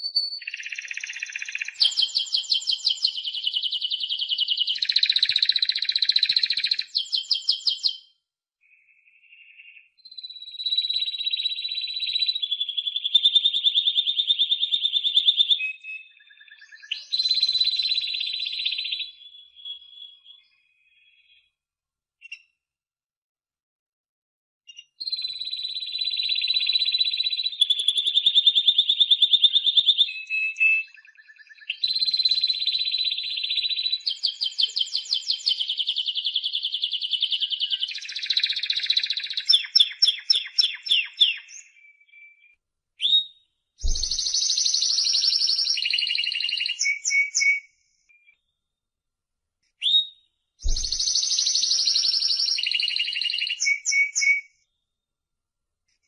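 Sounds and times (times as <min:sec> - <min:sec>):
canary singing trills: 0:00.0 - 0:08.1, 0:08.7 - 0:21.4, 0:24.7 - 0:48.4, 0:49.8 - 0:54.5.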